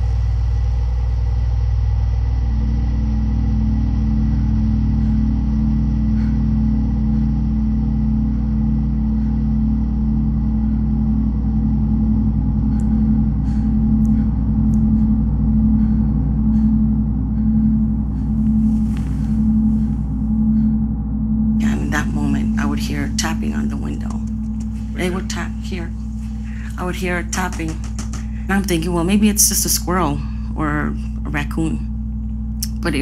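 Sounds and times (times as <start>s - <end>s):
dark ambient drone: 0.0s - 33.0s.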